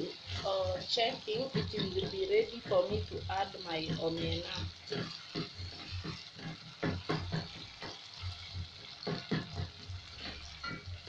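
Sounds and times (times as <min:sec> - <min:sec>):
food sizzling in oil: 0:00.0 - 0:11.0
wooden spoon scraping pot: 0:00.0 - 0:11.0.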